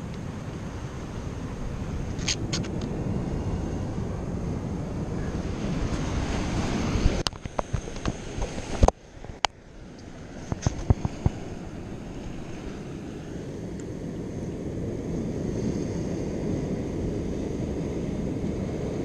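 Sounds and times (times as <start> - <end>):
surf on rocky shore: 0.0 - 19.0
wind: 0.0 - 19.0.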